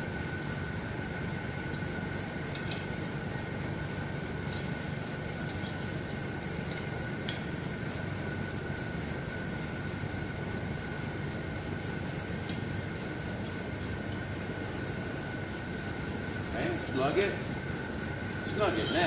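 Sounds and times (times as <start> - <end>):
steady hum with high whine: 0.0 - 19.0.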